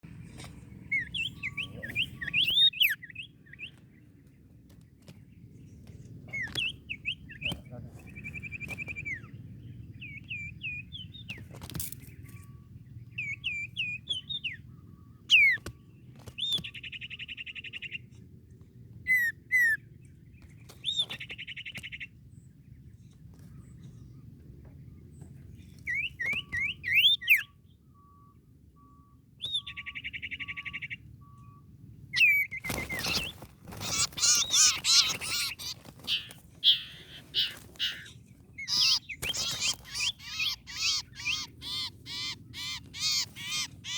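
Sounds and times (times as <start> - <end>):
songbird singing with trills: 0.8 - 18.2, 18.8 - 43.9.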